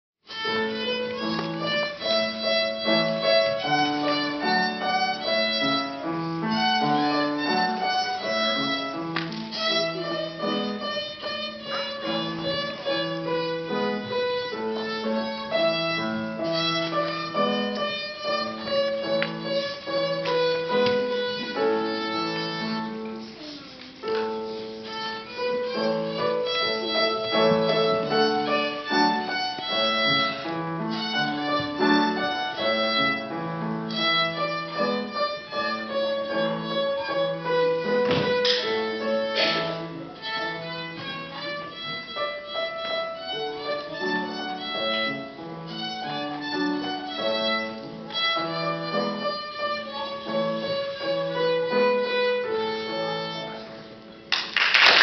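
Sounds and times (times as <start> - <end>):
violin melody: 0.2 - 54.5
piano sustained notes: 0.5 - 54.3.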